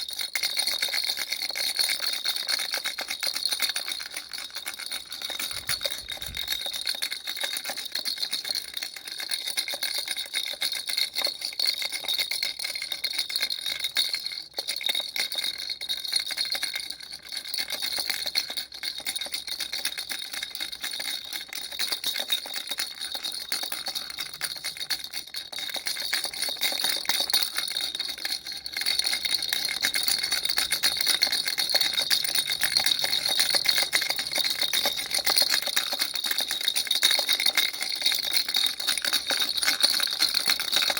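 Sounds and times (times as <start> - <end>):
toy rattle shaken: 0.0 - 15.1, 21.8 - 40.9.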